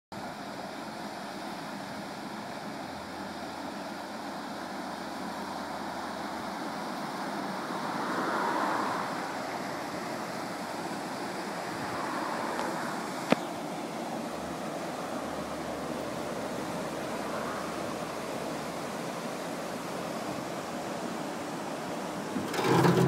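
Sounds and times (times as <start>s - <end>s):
water rushing over lock gates: 0.2s - 23.0s.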